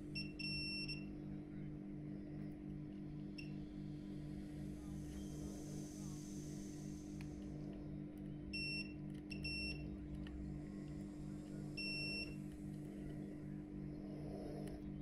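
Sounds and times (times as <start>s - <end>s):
pulsing low hum: 1.3s - 15.0s.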